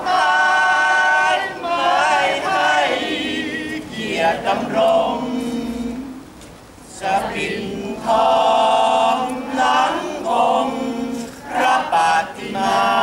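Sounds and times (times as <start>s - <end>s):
group of men and women singing: 0.0s - 13.0s.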